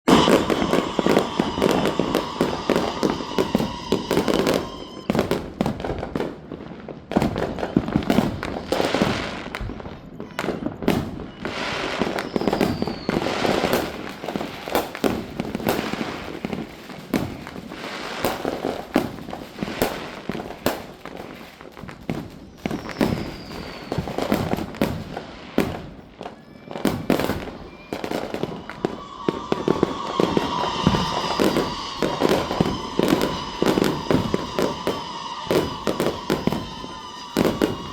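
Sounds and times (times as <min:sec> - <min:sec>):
falling firework whistle: 0:00.0 - 0:37.9
fireworks banging and crackling: 0:00.0 - 0:37.9.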